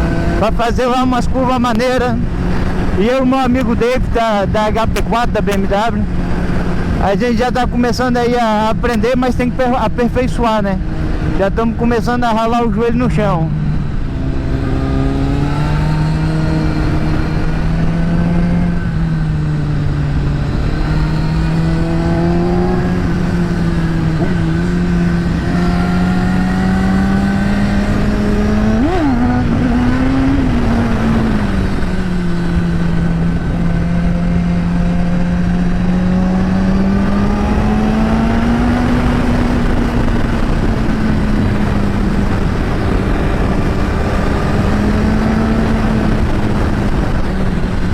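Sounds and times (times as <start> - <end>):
motorcycle engine at steady revs: 0.0 - 47.9
wind and road noise: 0.0 - 47.9.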